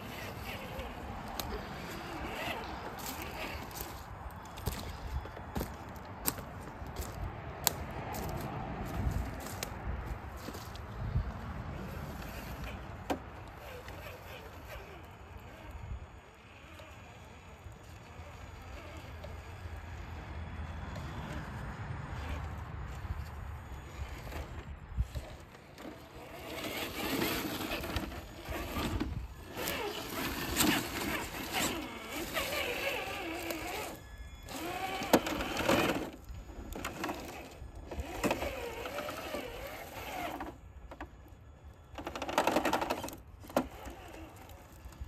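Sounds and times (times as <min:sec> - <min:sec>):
electric motor whining: 0:00.0 - 0:05.8, 0:11.8 - 0:45.0
tyres scraping over rocks: 0:00.0 - 0:45.0.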